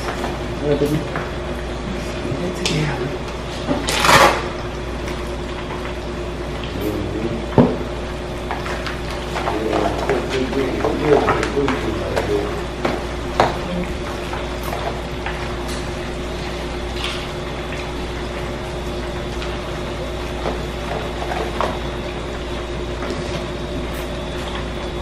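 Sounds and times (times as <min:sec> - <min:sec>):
kitchen hum: 0:00.0 - 0:25.0.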